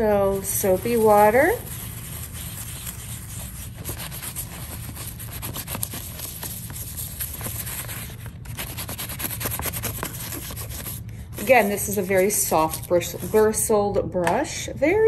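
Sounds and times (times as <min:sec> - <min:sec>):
toothbrush scrubbing leaf: 0:00.1 - 0:13.5.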